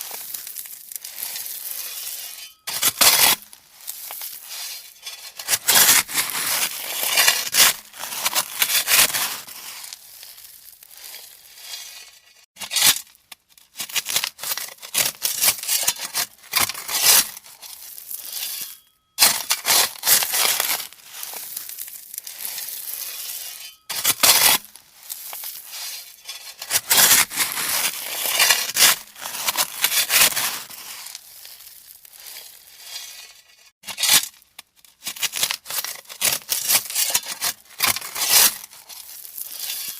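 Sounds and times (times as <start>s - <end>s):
shovel digging into gravel: 0.0s - 13.2s, 13.8s - 39.9s.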